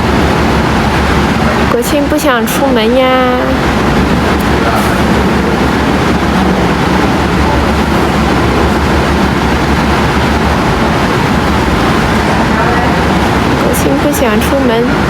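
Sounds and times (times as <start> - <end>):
loud steady rumbling: 0.0 - 15.0.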